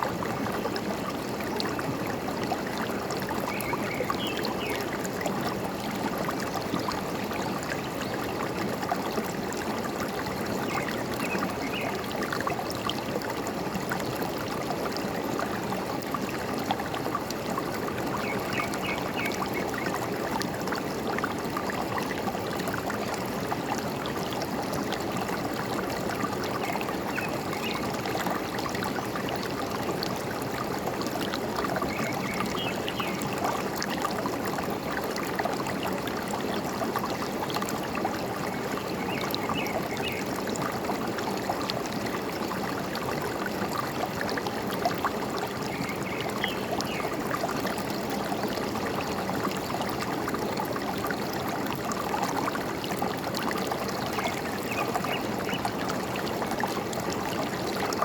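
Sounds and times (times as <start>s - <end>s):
forest stream trickling: 0.0s - 58.0s.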